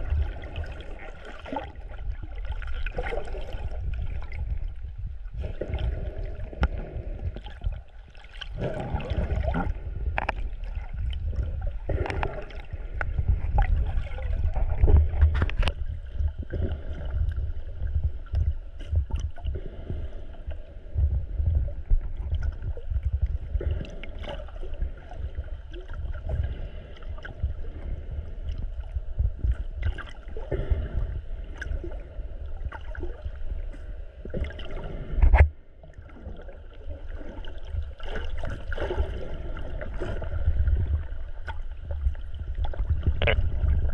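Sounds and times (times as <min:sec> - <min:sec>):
faint steady hum: 0:00.0 - 0:43.9
underwater sloshing and gurgling: 0:00.0 - 0:43.9.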